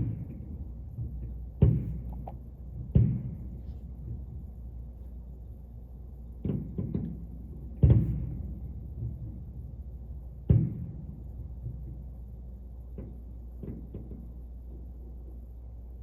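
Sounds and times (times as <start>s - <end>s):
muffled fireworks booms: 0.0s - 15.6s.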